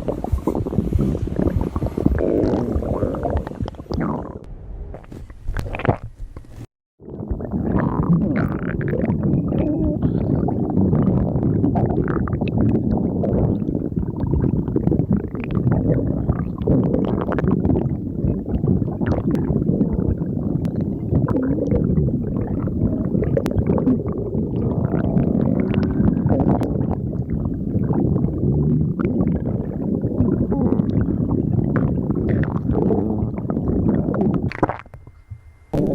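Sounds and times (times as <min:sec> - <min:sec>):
stomach growling: 0:00.0 - 0:35.9.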